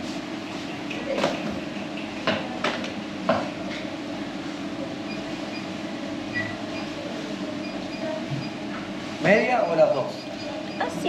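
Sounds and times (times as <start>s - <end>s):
supermarket hum: 0.0s - 11.0s.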